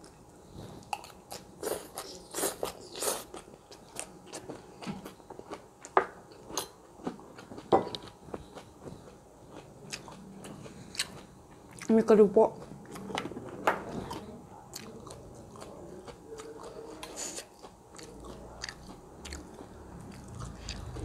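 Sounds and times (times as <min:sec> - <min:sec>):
crunchy chewing: 0:00.0 - 0:11.9, 0:13.9 - 0:21.0.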